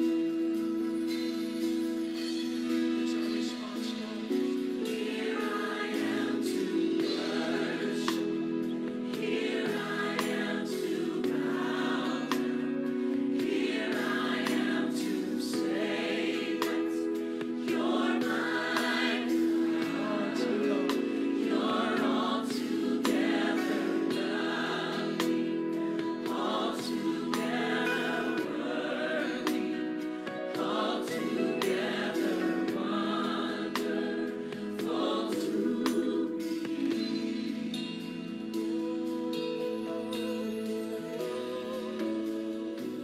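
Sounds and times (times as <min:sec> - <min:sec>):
gospel choir singing: 0:03.0 - 0:43.0.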